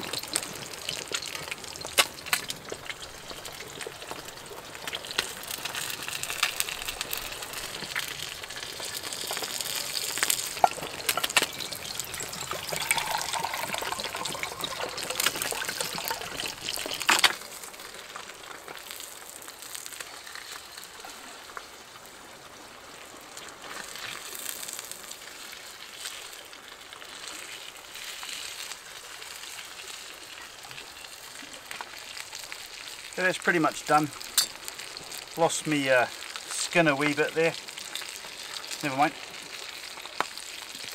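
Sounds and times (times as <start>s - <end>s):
fish sizzling in a pan: 0.0s - 40.9s.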